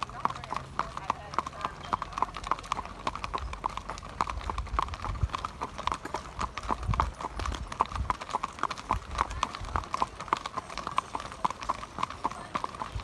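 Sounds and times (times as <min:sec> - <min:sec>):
horse hooves on pavement: 0:00.0 - 0:13.0.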